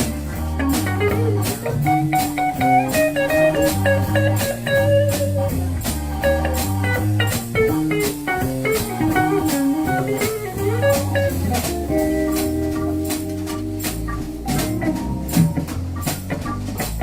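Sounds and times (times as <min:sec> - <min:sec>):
drum kit beat: 0:00.0 - 0:17.0
electric guitar melody: 0:00.0 - 0:17.0
organ: 0:00.0 - 0:17.0
walking bass: 0:00.0 - 0:17.0.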